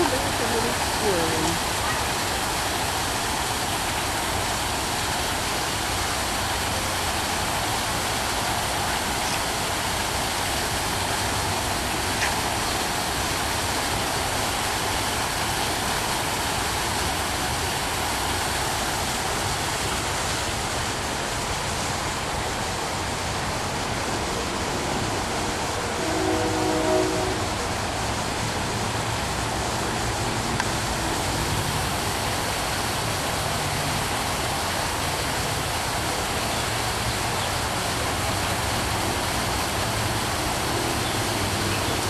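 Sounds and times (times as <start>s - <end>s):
waterfall pouring into pond: 0.0s - 42.0s.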